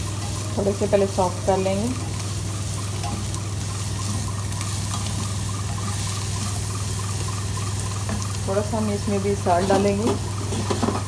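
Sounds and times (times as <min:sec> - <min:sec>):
potato and onion sizzling: 0:00.0 - 0:11.0.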